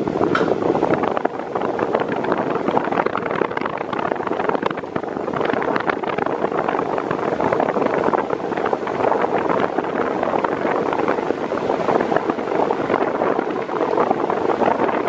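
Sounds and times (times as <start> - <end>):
wall fan running: 0.0 - 15.0.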